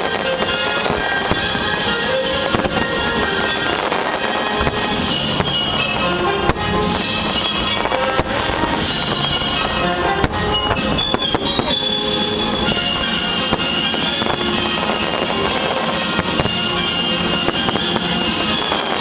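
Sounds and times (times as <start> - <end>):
fireworks bangs and crackles: 0.0 - 19.0
music: 0.0 - 19.0.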